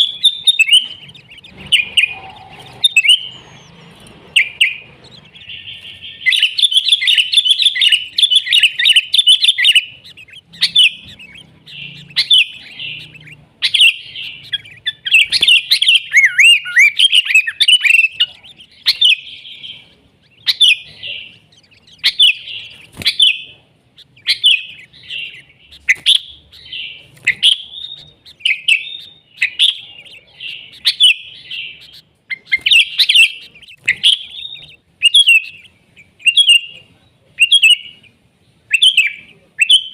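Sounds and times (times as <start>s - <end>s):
birds singing chattering phrases: 0.0s - 39.9s.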